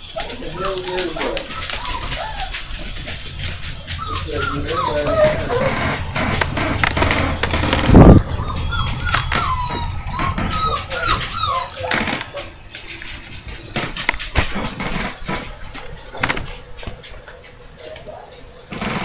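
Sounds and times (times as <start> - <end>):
puppies whining and squeaking: 0.0 - 19.0
rustling and clicks: 0.0 - 19.0.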